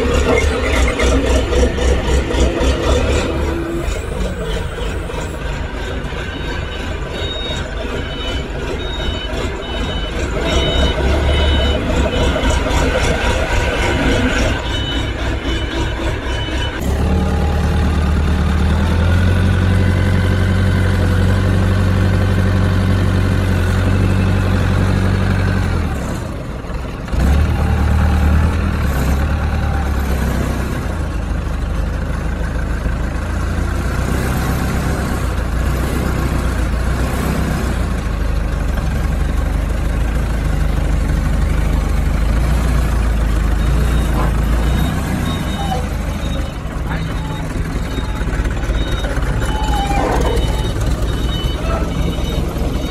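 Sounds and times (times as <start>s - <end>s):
forklift engine droning: 0.0s - 52.9s.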